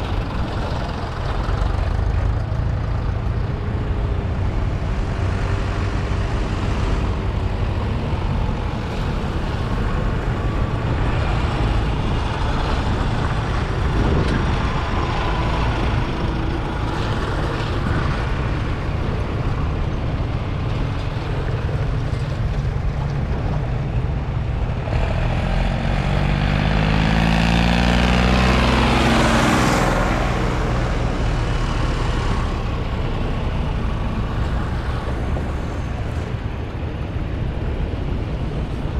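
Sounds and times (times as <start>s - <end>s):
tractor diesel engines running: 0.0s - 38.9s
tractor passing close: 0.0s - 38.9s.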